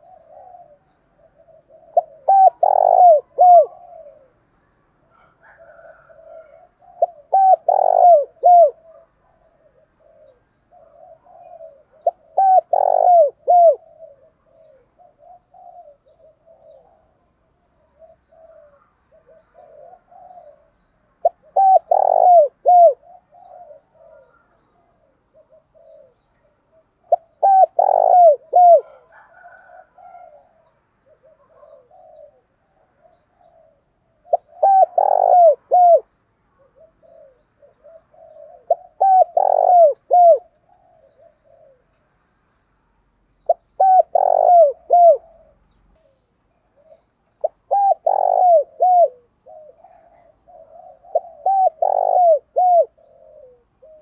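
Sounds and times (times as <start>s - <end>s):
dove cooing: 0.0s - 42.2s, 43.4s - 54.0s.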